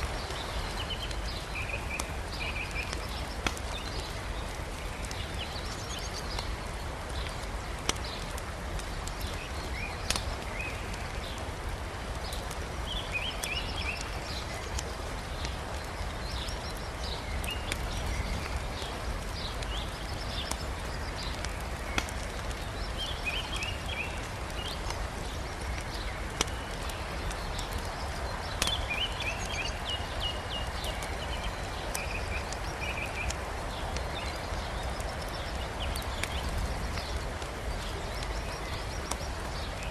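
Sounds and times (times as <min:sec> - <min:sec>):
burning logs popping: 0:00.0 - 0:39.9
river rushing: 0:00.0 - 0:39.9
small birds chirping: 0:00.0 - 0:39.9
wood fire crackling: 0:00.0 - 0:39.9.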